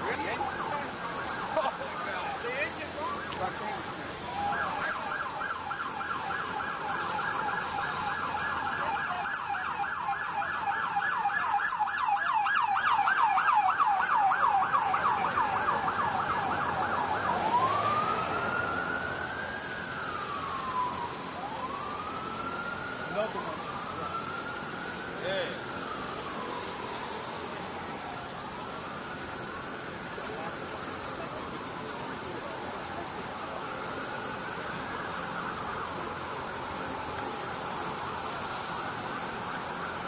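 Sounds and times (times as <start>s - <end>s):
emergency siren: 0.0s - 40.0s
street noise: 0.0s - 40.0s.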